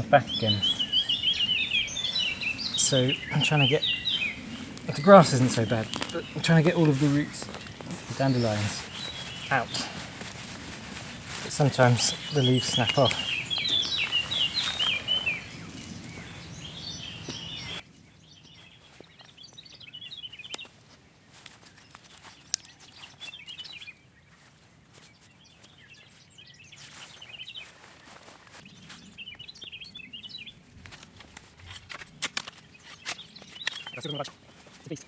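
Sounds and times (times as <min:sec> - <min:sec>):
quiet outdoor ambience: 0:00.0 - 0:35.0
songbirds chirping: 0:00.0 - 0:35.0.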